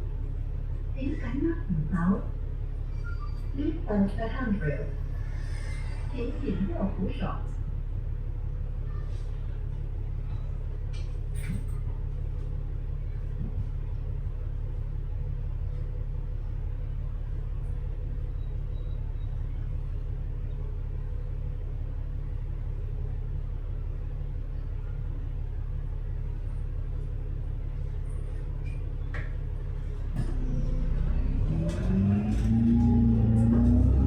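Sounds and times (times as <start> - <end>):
bus engine low rumble: 0.0 - 34.0.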